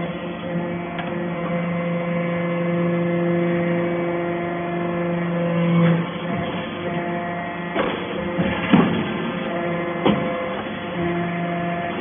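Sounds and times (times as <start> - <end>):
pump motor humming: 0.0 - 12.0.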